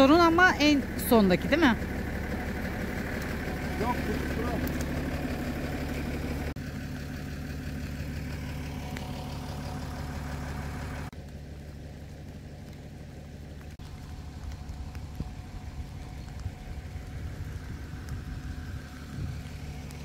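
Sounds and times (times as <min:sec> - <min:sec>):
vehicle engine running at low revs: 0:00.0 - 0:20.0.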